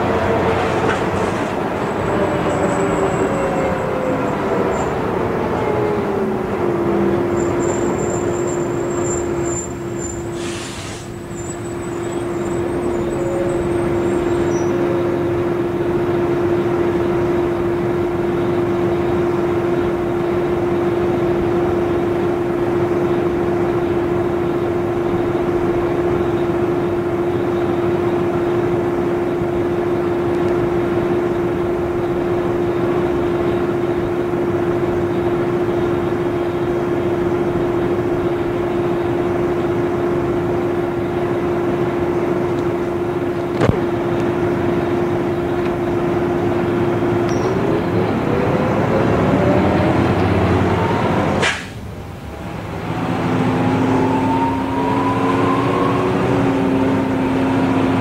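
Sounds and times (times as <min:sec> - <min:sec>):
bus diesel engine drone: 0:00.0 - 0:58.0
transmission whine: 0:00.0 - 0:58.0.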